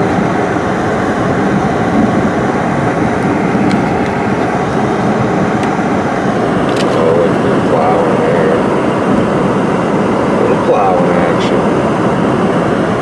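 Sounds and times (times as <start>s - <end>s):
heater fan blowing: 0.0s - 13.0s
tyres and engine hum: 0.0s - 13.0s.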